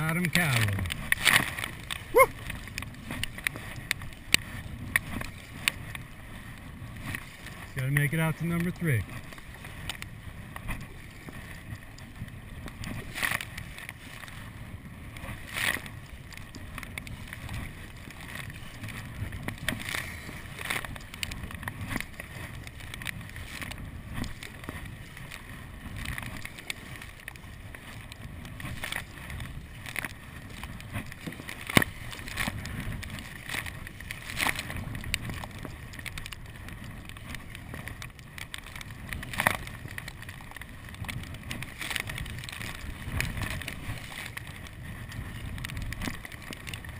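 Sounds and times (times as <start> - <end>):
water splashing against kayak: 0.0 - 46.9.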